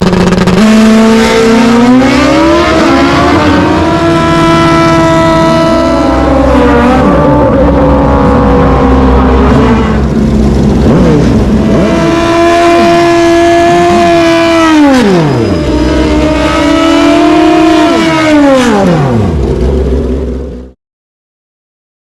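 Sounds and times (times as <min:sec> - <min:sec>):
racing motorcycle engines revving: 0:00.0 - 0:20.8.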